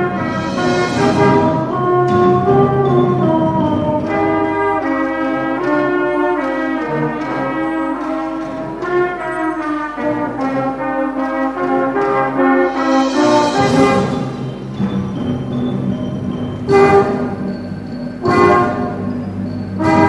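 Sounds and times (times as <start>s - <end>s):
brass band playing chords: 0.0s - 20.0s.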